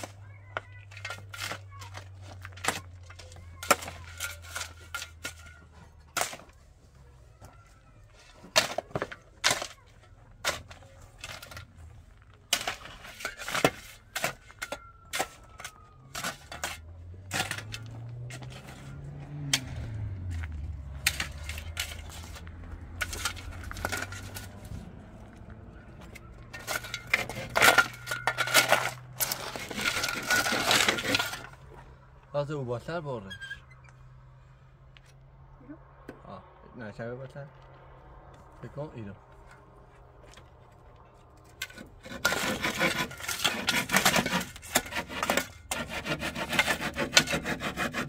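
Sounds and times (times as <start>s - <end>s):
shovel scraping gravelly dirt: 0.0s - 33.4s, 38.6s - 48.0s.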